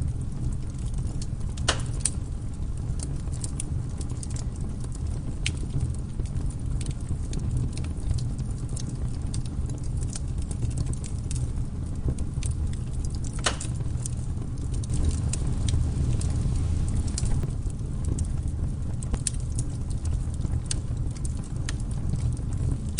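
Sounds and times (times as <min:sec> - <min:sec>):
burning wood crackling and popping: 0:00.0 - 0:22.9
low rumble of flames: 0:00.0 - 0:22.9.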